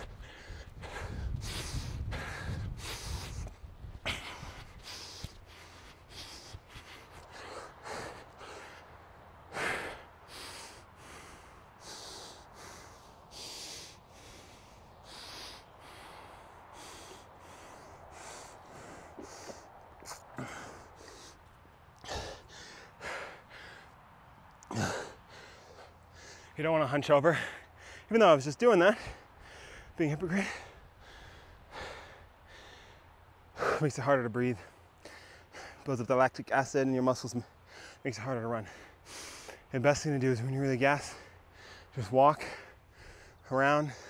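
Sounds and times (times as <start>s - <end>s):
man breathing hard: 0.0s - 28.1s, 28.8s - 34.0s, 34.6s - 35.9s, 37.4s - 39.8s, 40.8s - 44.0s.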